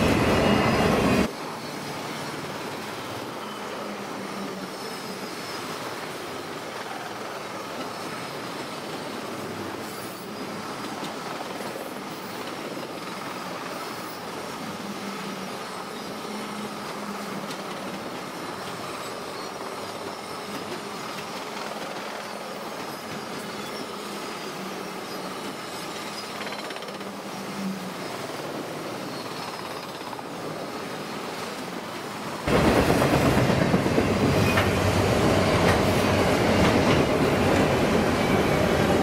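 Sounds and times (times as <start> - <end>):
train wheels running on rails: 0.0 - 39.0.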